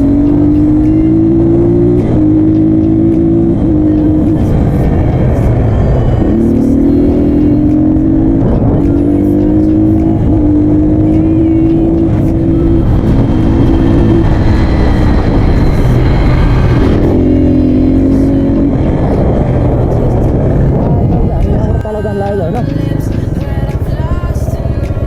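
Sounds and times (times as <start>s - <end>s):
dirt bike engine running: 0.0s - 25.0s
heavy low rumble: 0.0s - 25.0s.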